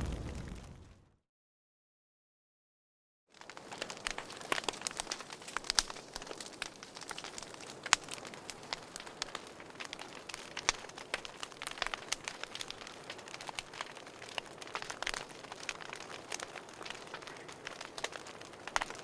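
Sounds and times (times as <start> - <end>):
wood fire crackling: 0.0 - 1.1, 3.3 - 19.0.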